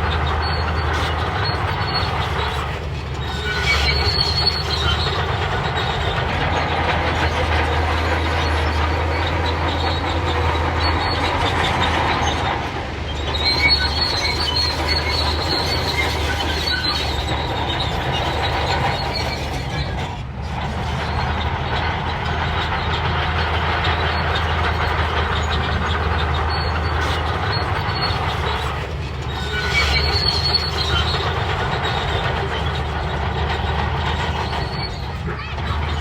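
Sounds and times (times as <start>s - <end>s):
diesel engine drone: 0.0s - 36.0s
steel tracks clanking: 0.0s - 36.0s
track squeals: 0.0s - 36.0s.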